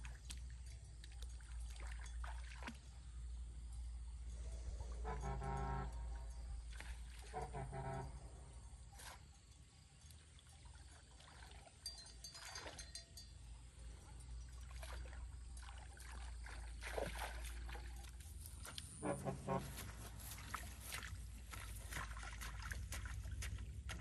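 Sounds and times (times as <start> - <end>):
water sloshing and splashing: 0.0 - 24.0.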